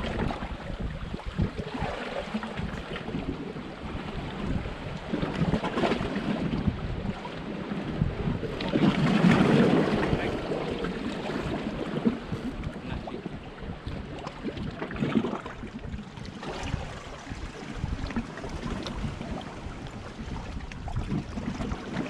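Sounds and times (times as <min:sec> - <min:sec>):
waves lapping against rocks: 0:00.0 - 0:22.0
wind buffeting microphone: 0:00.0 - 0:22.0.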